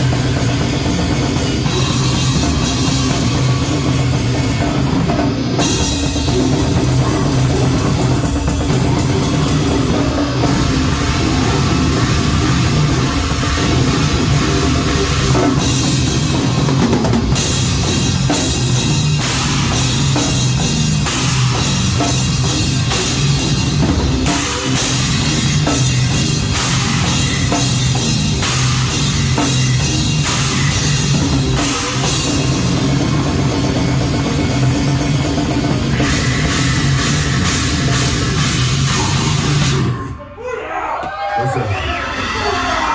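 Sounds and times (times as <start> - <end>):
fast drumming and cymbals: 0.0 - 40.1
heavy metal band playing: 0.0 - 40.4, 41.3 - 42.9.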